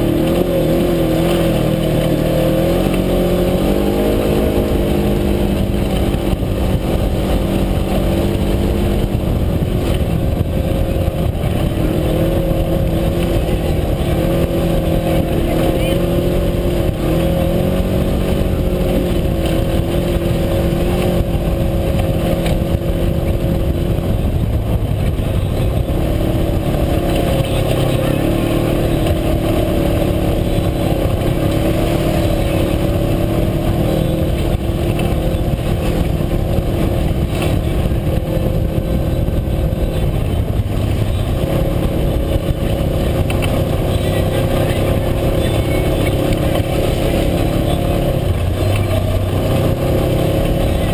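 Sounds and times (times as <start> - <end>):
utility vehicle engine running: 0.0 - 50.9.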